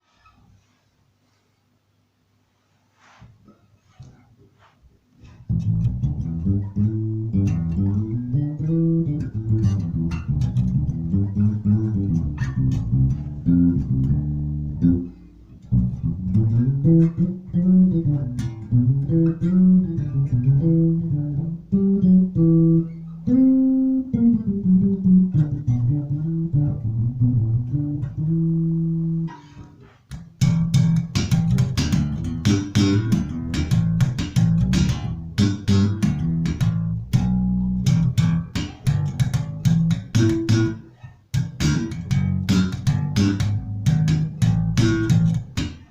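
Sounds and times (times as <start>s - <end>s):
electric bass guitar melody: 5.2s - 45.9s.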